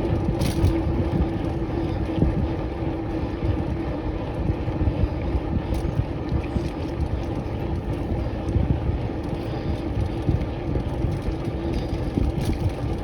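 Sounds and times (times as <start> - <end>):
bicycle tyres rushing on wet path: 0.0 - 13.0
wind buffeting microphone: 0.0 - 13.0.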